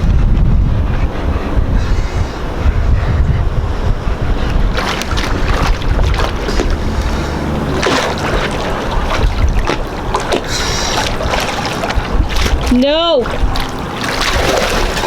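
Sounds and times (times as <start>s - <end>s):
water splashing against hull: 0.0s - 15.0s
wind on microphone: 0.0s - 15.0s.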